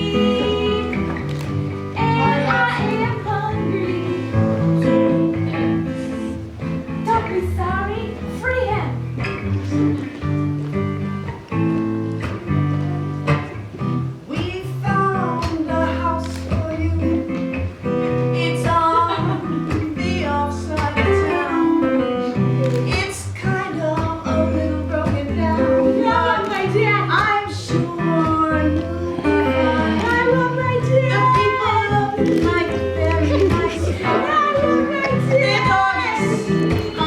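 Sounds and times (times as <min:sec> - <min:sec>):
woman singing: 0:00.0 - 0:06.4, 0:07.0 - 0:09.1, 0:14.2 - 0:37.0
acoustic guitar: 0:00.0 - 0:37.0.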